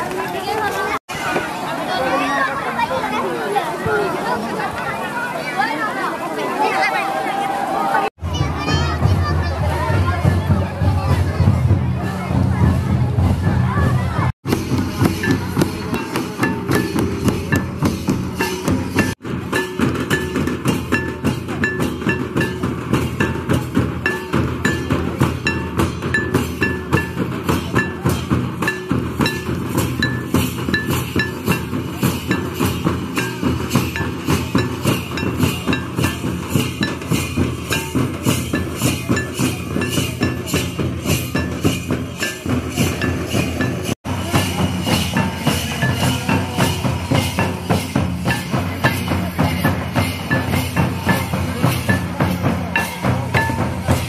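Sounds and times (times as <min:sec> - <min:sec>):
fast folk drumming: 0:08.1 - 0:54.0.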